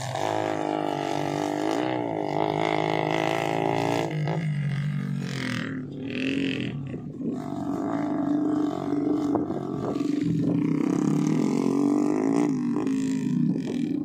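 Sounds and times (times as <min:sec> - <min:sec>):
motorbike engine running: 0:00.0 - 0:14.0.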